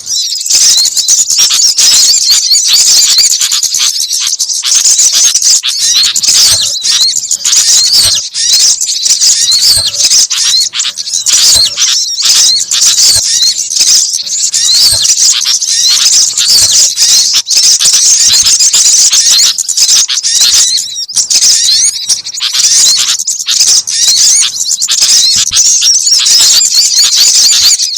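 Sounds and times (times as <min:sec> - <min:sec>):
songbirds chirping and twittering: 0:00.0 - 0:27.9.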